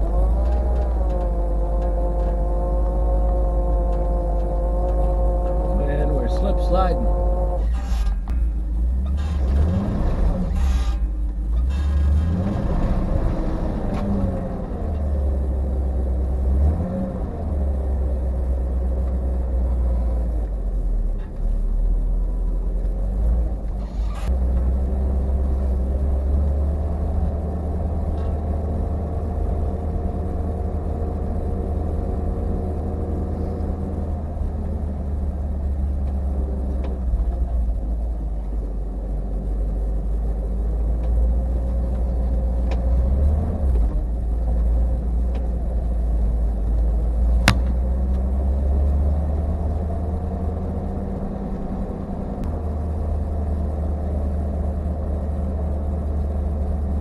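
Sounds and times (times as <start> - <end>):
car engine running: 0.0 - 57.0
road rumble on snow: 0.0 - 57.0.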